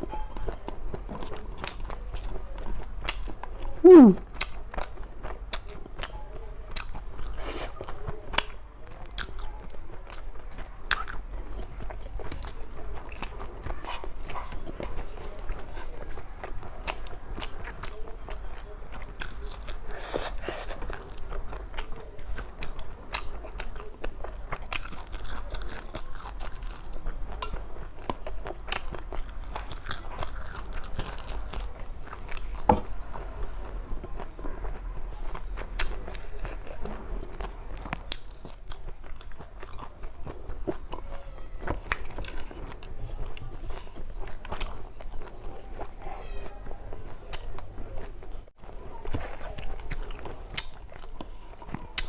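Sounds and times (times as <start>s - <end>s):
person chewing and crunching: 0.4s - 52.0s.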